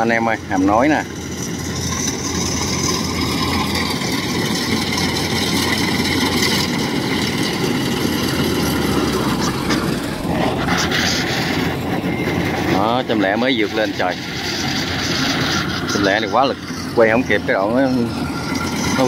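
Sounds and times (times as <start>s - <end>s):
combine harvester engine running: 0.0s - 19.0s.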